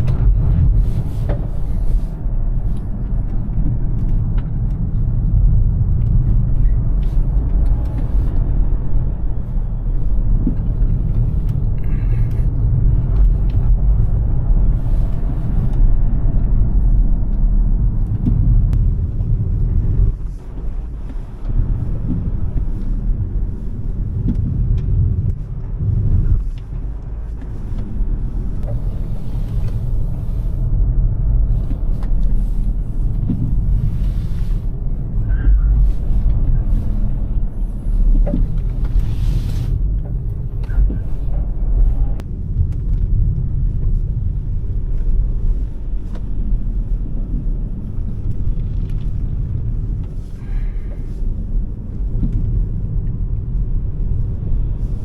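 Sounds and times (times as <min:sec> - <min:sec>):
car road and tyre rumble: 0:00.0 - 0:55.0.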